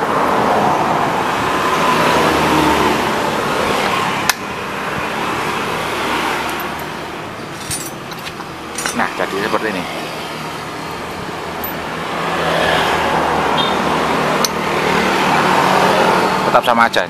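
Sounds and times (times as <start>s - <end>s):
road traffic noise: 0.0s - 17.0s
vehicle passing by: 0.0s - 17.0s.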